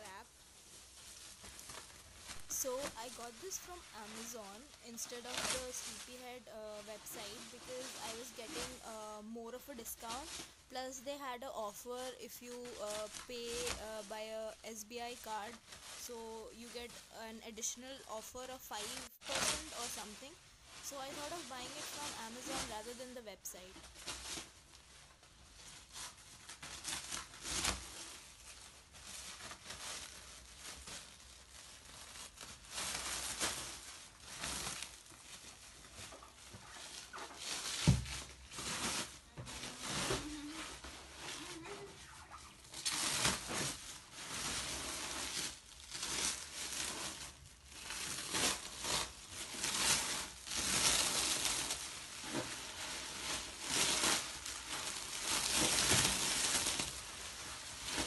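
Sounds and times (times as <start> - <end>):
plastic wrap crinkling: 0.0 - 58.0.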